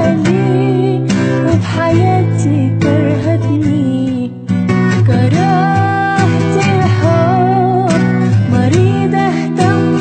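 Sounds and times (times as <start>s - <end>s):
acoustic guitar strumming: 0.0s - 10.0s
person singing: 0.0s - 10.0s.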